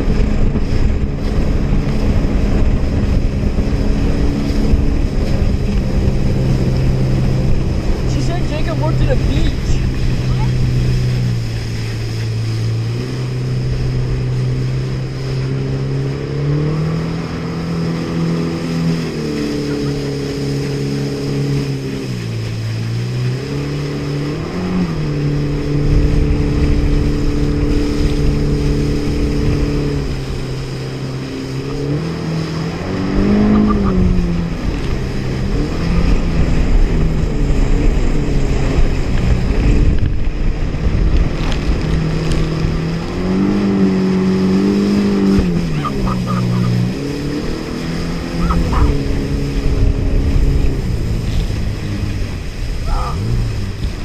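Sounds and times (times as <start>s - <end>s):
jet ski engine running: 0.0s - 54.0s
rush of water and wind: 0.0s - 54.0s.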